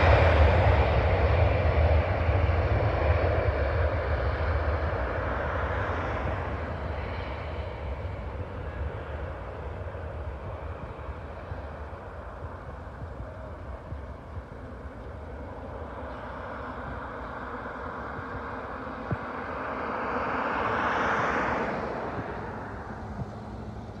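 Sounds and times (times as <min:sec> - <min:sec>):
jet engine rumble and rush: 0:00.0 - 0:24.0.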